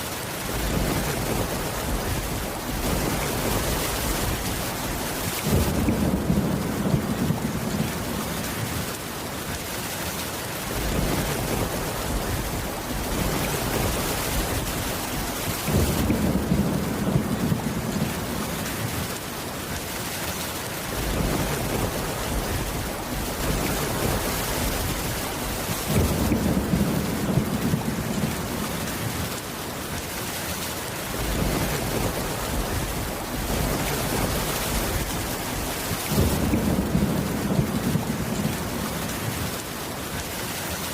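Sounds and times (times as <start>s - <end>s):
steady rain: 0.0s - 40.9s
low thunder rumbles: 0.4s - 9.0s, 10.7s - 19.2s, 20.9s - 29.4s, 31.1s - 39.6s.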